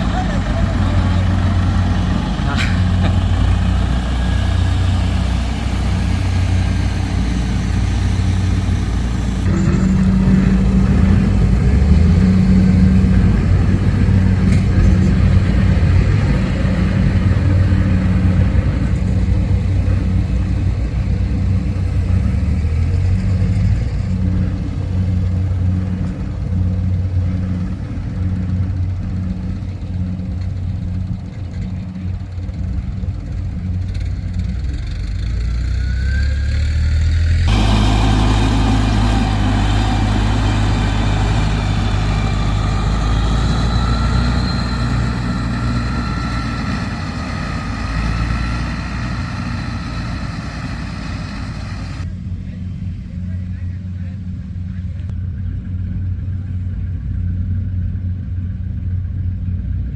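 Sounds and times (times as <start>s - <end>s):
harvester engine droning: 0.0s - 59.9s.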